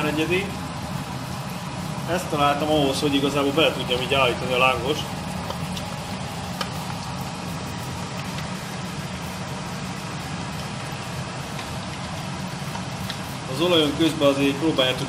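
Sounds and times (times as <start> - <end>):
dough sizzling in hot oil: 0.0 - 14.9
steady low hum: 0.0 - 15.0.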